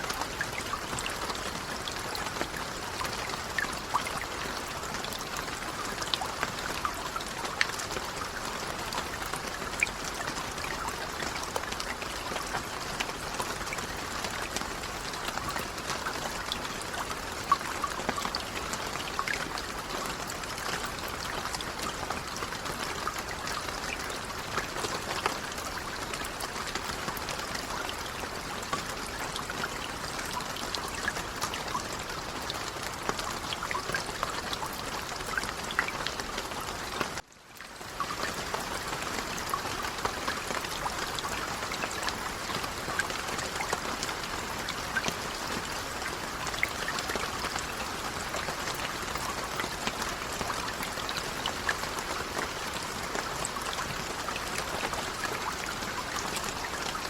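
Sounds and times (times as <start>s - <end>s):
light rain pattering: 0.0s - 57.0s.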